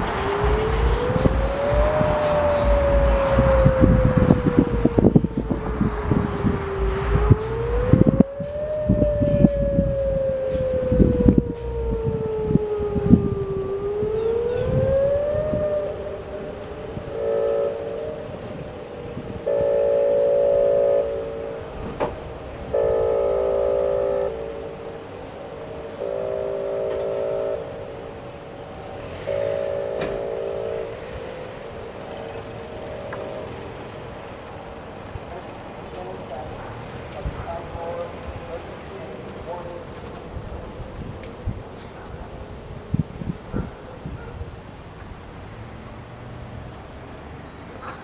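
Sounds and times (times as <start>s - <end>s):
tornado warning sirens: 0.0s - 48.0s.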